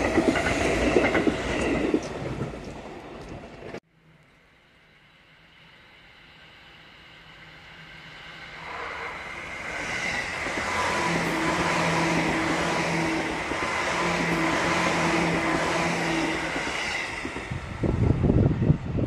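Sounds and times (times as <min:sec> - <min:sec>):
train running past: 0:00.0 - 0:19.0.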